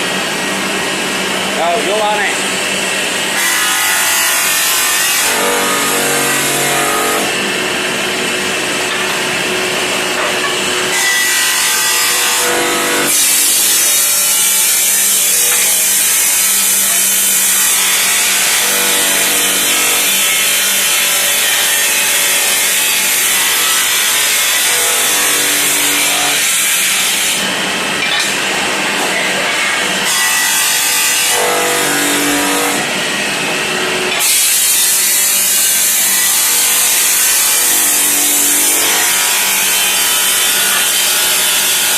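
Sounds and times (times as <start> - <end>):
saw blade cutting tile: 3.4 - 7.5, 10.2 - 32.9, 34.1 - 41.9.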